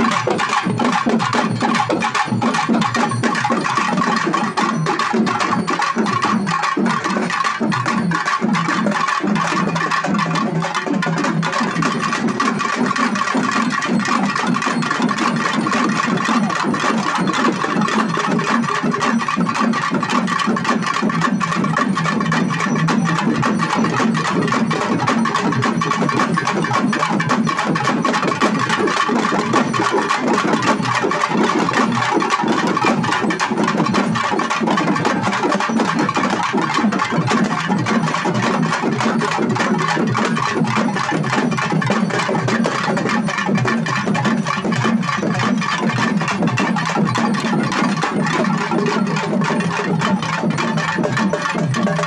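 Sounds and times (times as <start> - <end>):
large drums playing fast rhythm: 0.0 - 52.0.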